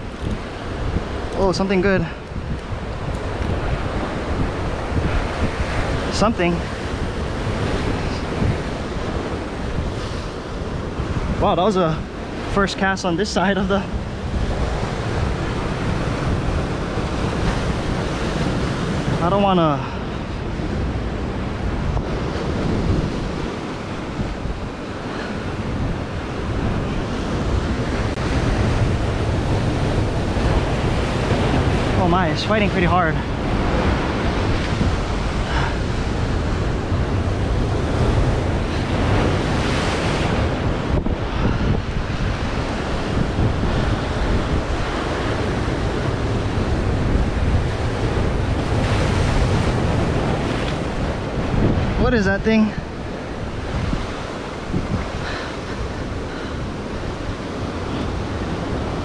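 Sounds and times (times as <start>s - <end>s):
ocean surf breaking on rocks: 0.0s - 59.0s
wind buffeting microphone: 0.0s - 59.0s.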